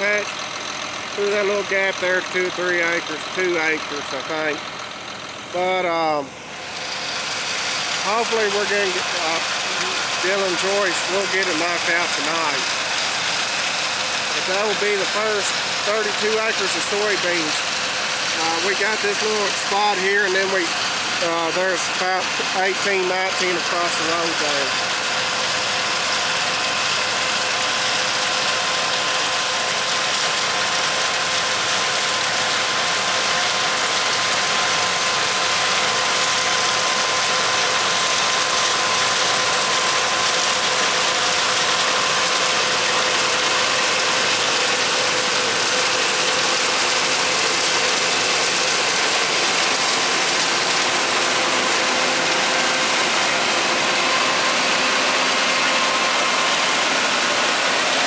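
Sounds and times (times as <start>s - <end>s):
constant mechanical whine: 0.0s - 58.0s
harvesting machinery running: 0.0s - 58.0s.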